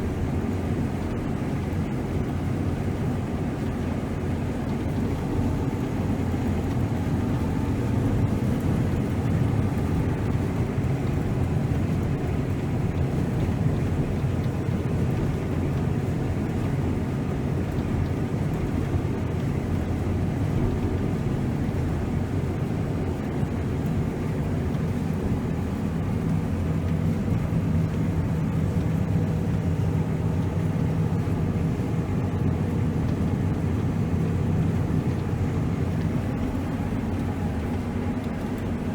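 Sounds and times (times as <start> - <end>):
diesel engine drone: 0.0 - 38.9.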